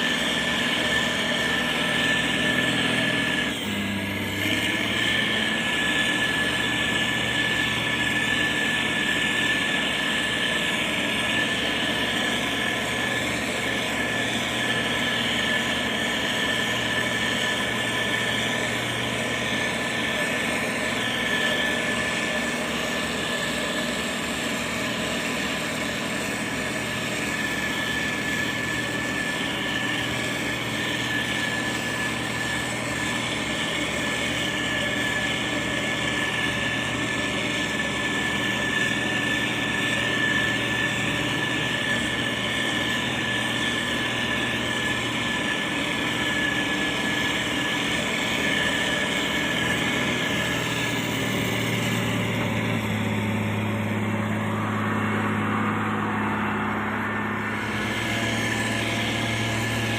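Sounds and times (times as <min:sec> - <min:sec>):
diesel engine running: 0:00.0 - 0:59.9
high whine: 0:00.0 - 0:59.9.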